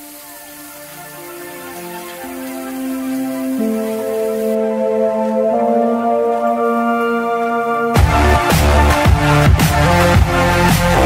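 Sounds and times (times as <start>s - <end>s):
music with sustained chords: 0.0s - 11.0s.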